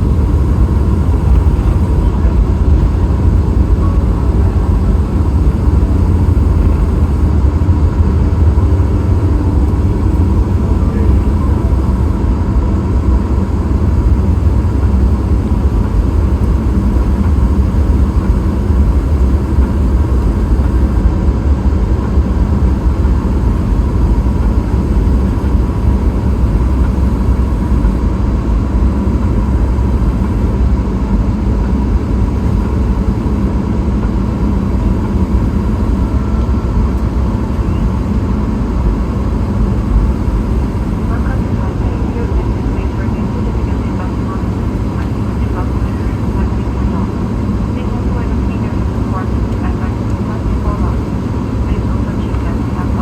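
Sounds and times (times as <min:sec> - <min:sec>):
airplane cabin engine drone: 0:00.0 - 0:53.0
faint steady whine: 0:00.0 - 0:53.0.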